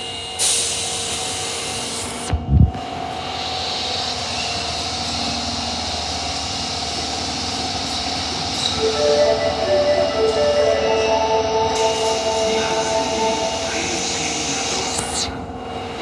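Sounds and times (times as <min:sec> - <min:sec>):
subway train hum and hiss: 0:00.0 - 0:16.0.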